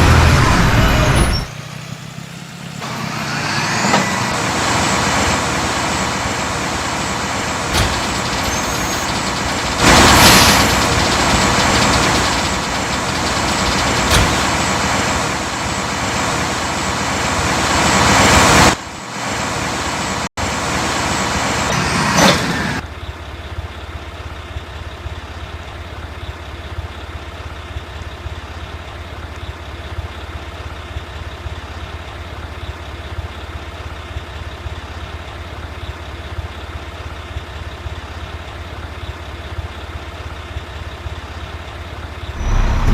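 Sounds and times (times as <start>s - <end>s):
garbage truck diesel engine: 0.0s - 42.9s.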